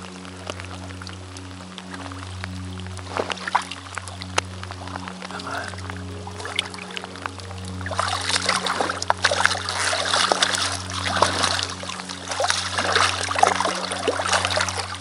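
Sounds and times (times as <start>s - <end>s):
steady low hum: 0.0s - 15.0s
water splashing and trickling: 0.0s - 15.0s.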